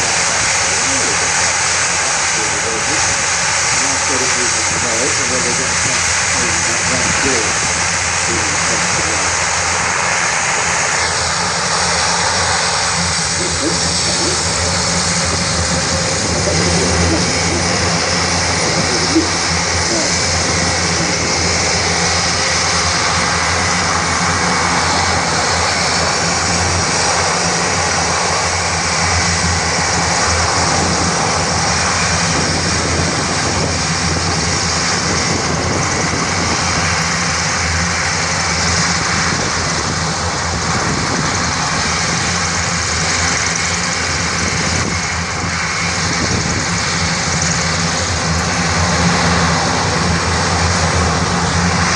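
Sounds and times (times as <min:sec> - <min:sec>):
turboprop engines droning: 0:00.0 - 0:51.9.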